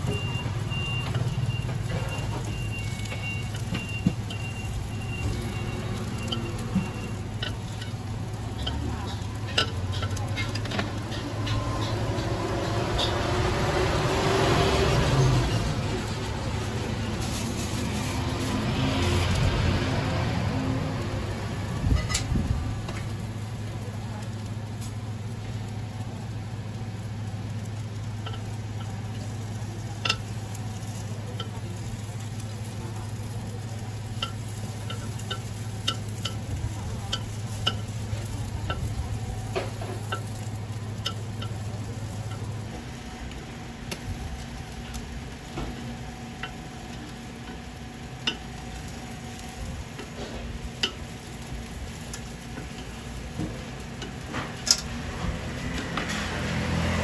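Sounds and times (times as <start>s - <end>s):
eggs frying on a griddle: 0.0s - 57.0s.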